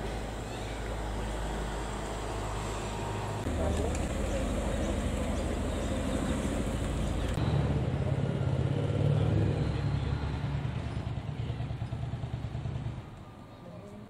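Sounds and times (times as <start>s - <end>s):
outdoor noise: 0.0s - 14.0s
vehicle engine humming: 0.0s - 14.0s.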